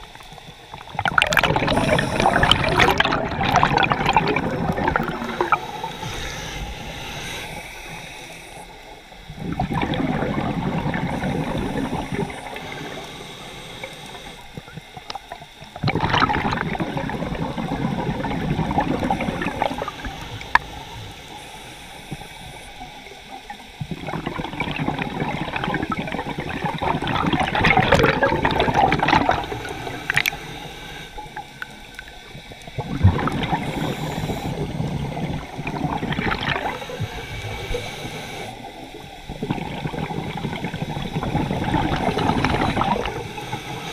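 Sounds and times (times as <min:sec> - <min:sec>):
underwater regulator bubbling: 0:00.7 - 0:21.3, 0:22.0 - 0:43.9.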